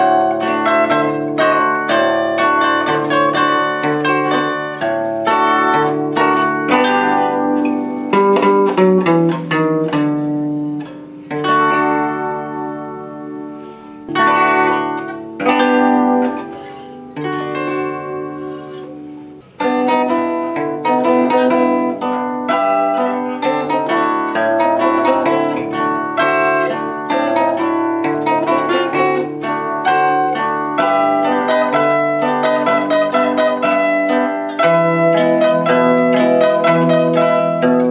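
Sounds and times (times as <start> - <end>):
zither played solo: 0.0 - 37.9.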